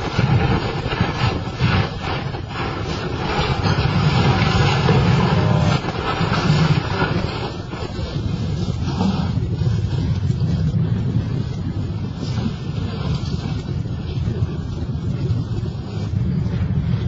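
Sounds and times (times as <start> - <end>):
excavator engine rumbling: 0.0 - 17.0
wind noise on microphone: 0.0 - 17.0.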